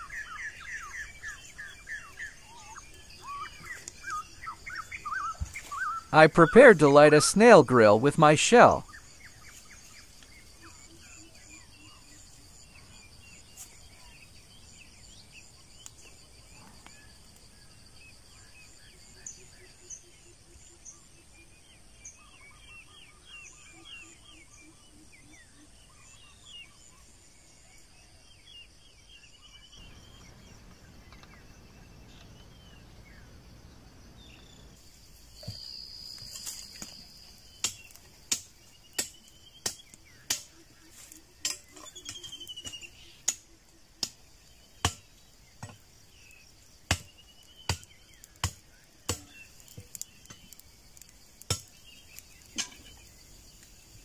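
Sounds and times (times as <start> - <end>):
birds chirping: 0.0 - 24.6, 29.3 - 54.0
insects chirping: 0.0 - 54.0.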